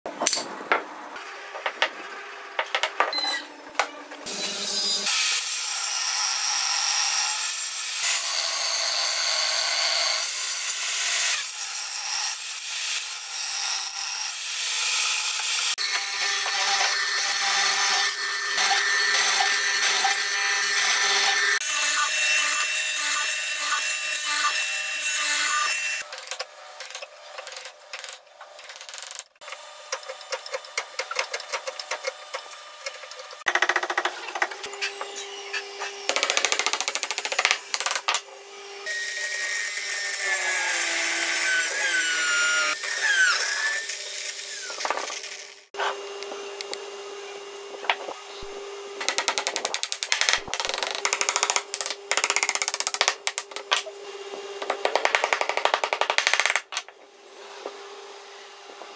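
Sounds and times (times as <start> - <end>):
table saw cutting wood: 1.2 - 28.1, 29.3 - 58.9.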